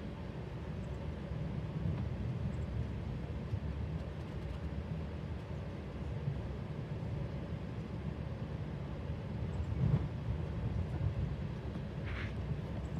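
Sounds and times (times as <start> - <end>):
train carriage rumble: 0.0 - 12.9.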